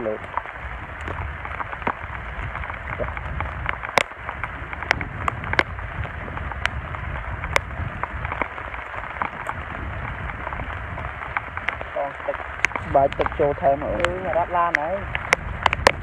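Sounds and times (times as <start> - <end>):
sharp crackles and clicks: 0.0 - 16.0
steady hiss and low rumble: 0.0 - 16.0.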